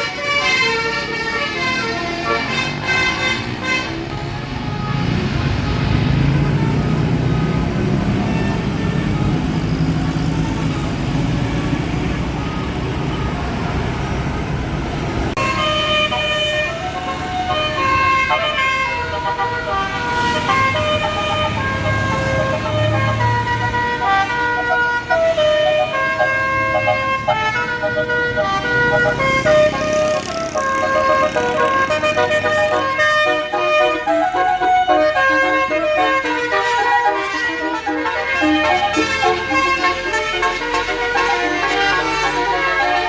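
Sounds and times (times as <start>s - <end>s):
bus musical horn melody: 0.0s - 14.7s, 15.3s - 43.0s
bus engine: 0.0s - 43.0s
traffic rumble: 0.0s - 43.0s.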